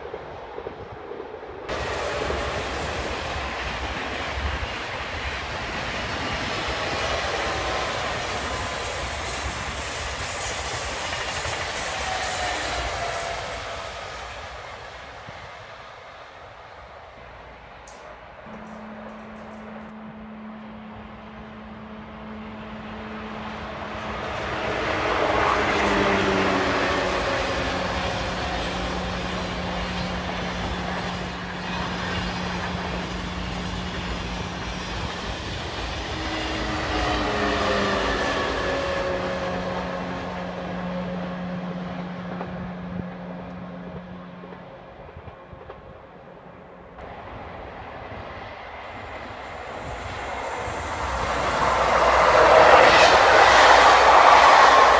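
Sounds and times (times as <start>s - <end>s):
falling whine of train: 0.0s - 54.9s
high-speed train passing: 0.0s - 54.9s
rail scene ambience: 0.0s - 54.9s.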